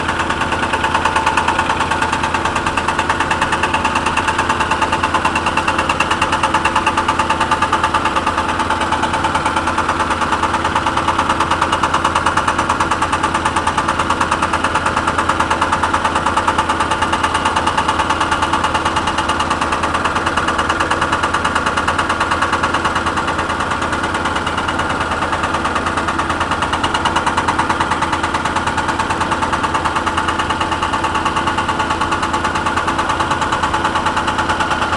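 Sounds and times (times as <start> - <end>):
excavator engine running: 0.0 - 34.9
hydraulic hammer breaker pounding: 0.0 - 34.9.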